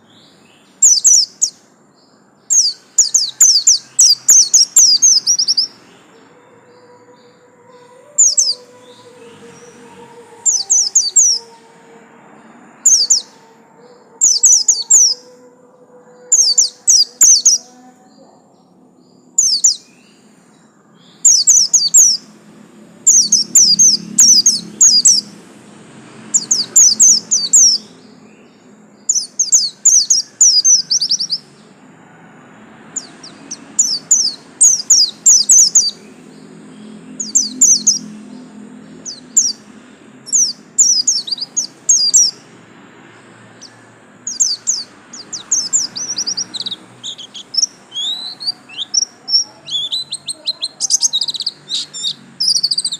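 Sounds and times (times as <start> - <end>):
bird chirping call: 0.0 - 22.4, 23.0 - 25.5, 26.1 - 31.7, 32.9 - 52.9.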